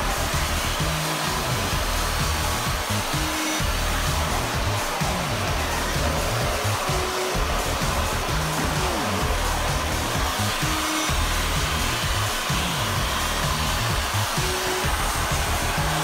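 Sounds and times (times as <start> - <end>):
background music: 0.0 - 16.0
vacuum cleaner running: 0.0 - 16.0.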